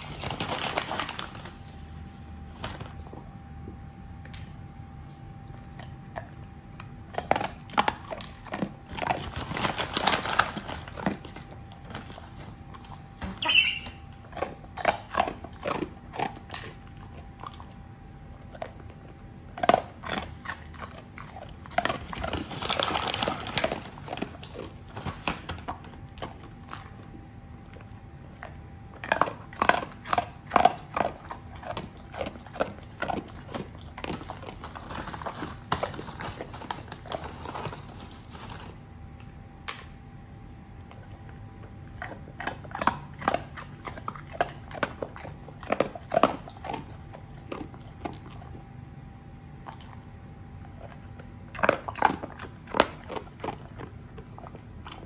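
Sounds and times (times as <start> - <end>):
dog clicking and snuffling: 5.4 - 40.0, 40.8 - 48.9, 49.5 - 55.0.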